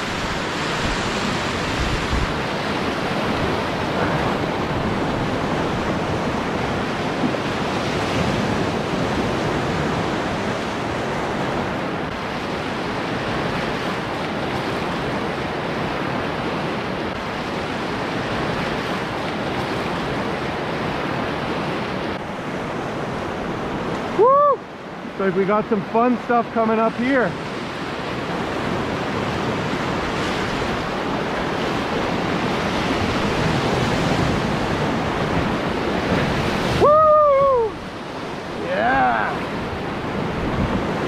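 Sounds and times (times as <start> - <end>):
whitewater rapid rushing: 0.0 - 41.0.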